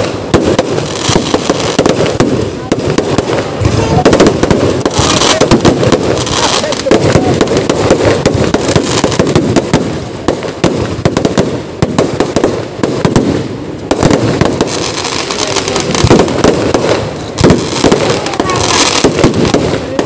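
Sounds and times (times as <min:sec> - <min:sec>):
firecrackers banging and crackling: 0:00.0 - 0:20.0.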